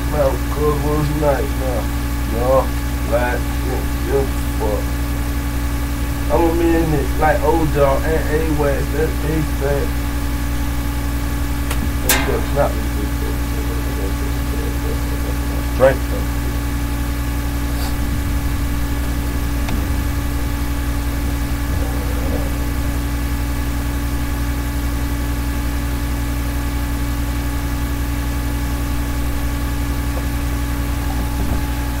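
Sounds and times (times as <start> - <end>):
low hum: 0.0 - 32.0
steady tones: 0.0 - 32.0.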